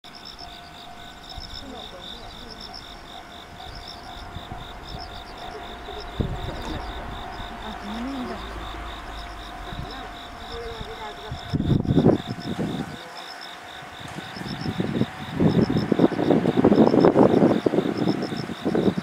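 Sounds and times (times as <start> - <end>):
low outdoor rumble: 0.0 - 17.2
insects chirping: 0.0 - 19.0.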